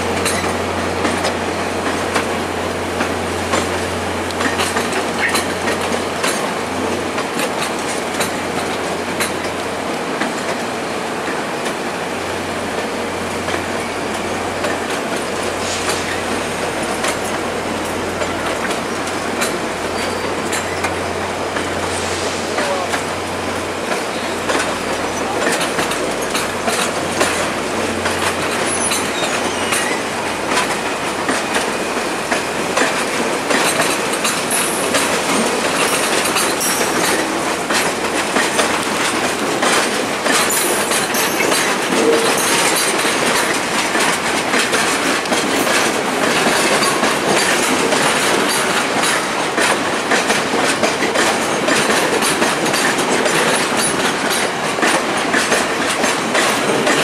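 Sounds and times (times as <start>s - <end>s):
train cars rumbling past: 0.0s - 57.0s
wheels clicking over rail joints: 0.1s - 11.8s, 12.8s - 21.8s, 23.9s - 57.0s.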